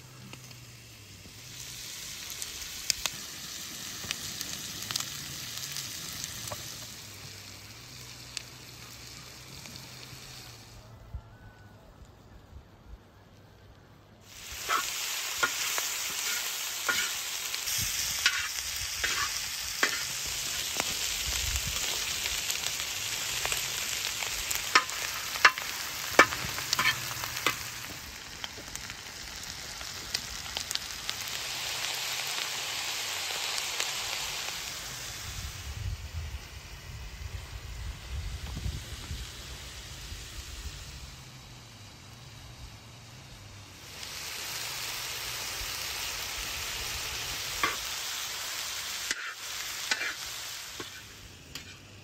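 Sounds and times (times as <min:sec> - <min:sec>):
food sizzling in pan: 0:00.0 - 0:10.9, 0:14.2 - 0:52.0.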